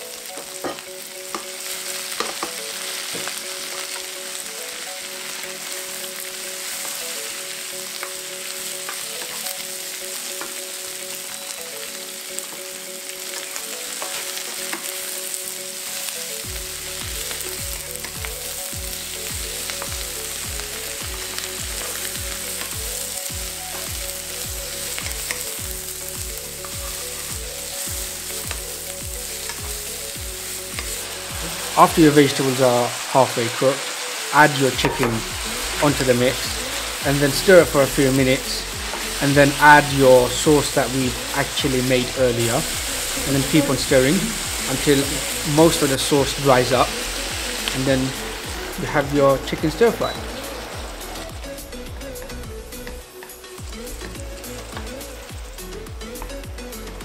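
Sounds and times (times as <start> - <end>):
soft background music: 0.0 - 57.0
vegetables sizzling in a wok: 0.0 - 57.0.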